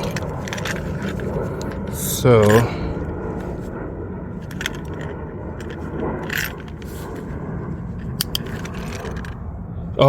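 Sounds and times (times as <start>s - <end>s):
parts clicking: 0.0s - 3.8s, 4.4s - 9.4s
parts scraping: 0.0s - 9.5s.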